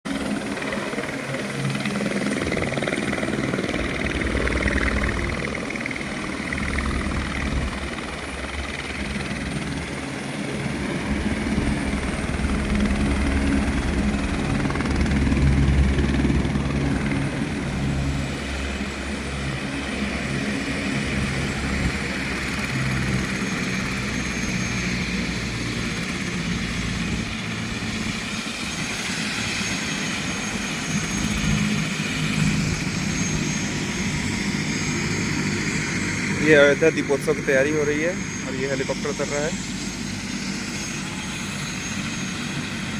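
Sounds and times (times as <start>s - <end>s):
helicopter rotor beat: 0.0s - 42.9s.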